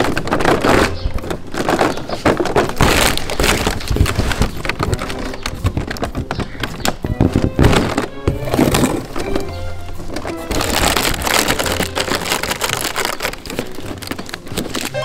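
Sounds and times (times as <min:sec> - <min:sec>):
cardboard crackling and tearing: 0:00.0 - 0:15.0.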